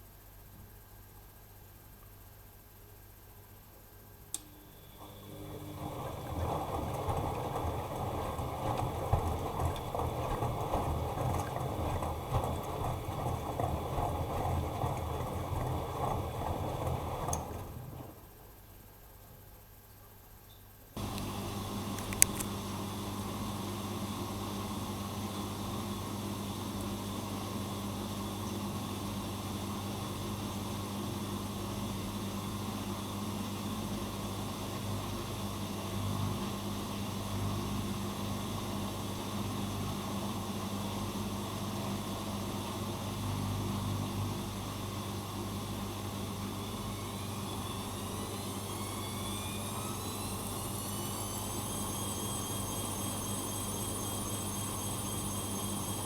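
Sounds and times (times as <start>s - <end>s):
washing machine motor hum: 4.2s - 19.0s, 20.9s - 56.0s
washing machine drum whine: 4.3s - 19.0s, 21.0s - 56.0s.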